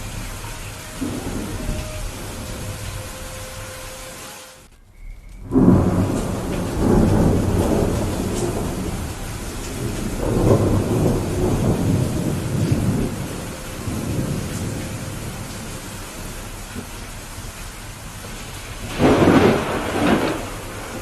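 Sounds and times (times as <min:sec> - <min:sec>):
rolling thunder: 0:00.0 - 0:04.0, 0:05.4 - 0:21.0
steady rain: 0:00.0 - 0:21.0.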